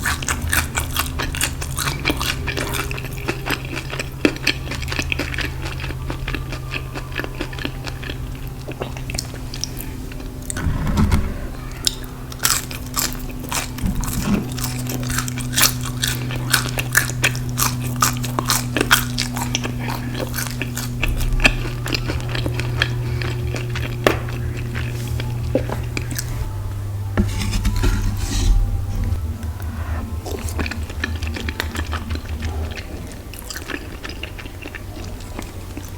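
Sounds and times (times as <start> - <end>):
crunching and chewing fried food: 0.0 - 10.7, 11.8 - 26.6, 27.3 - 35.9
steady low hum: 0.0 - 35.9.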